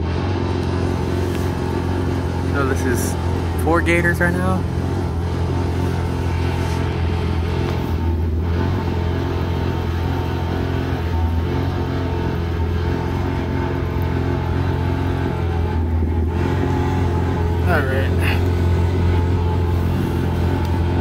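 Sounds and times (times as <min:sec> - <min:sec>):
jet ski engine idling: 0:00.0 - 0:21.0.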